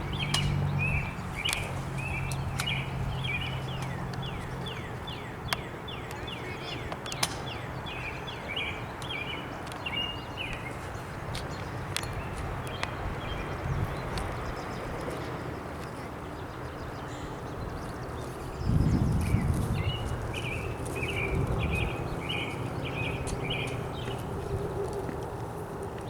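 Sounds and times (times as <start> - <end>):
bird chirping: 0.0 - 24.9
outdoor background noise: 0.0 - 26.0.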